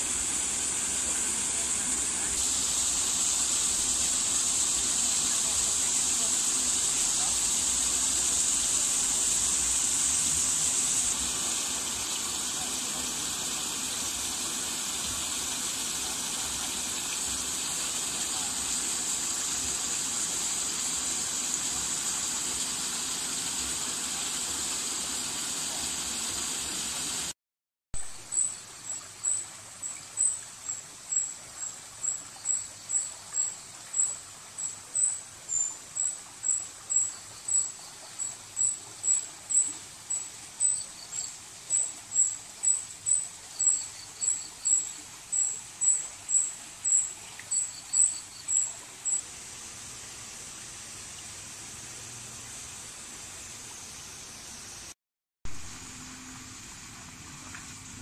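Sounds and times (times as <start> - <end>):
high insect-like hiss: 0.0 - 27.4, 28.1 - 58.0.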